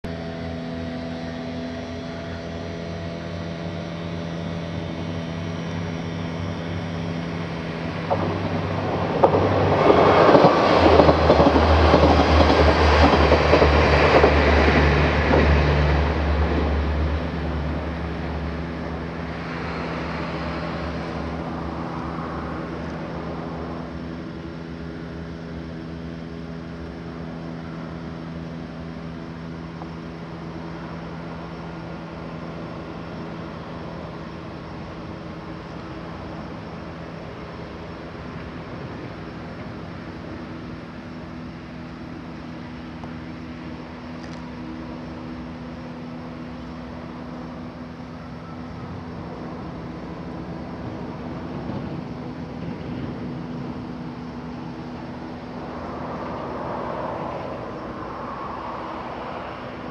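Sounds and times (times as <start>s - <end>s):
model craft motor and propeller drone: 0.1s - 59.9s.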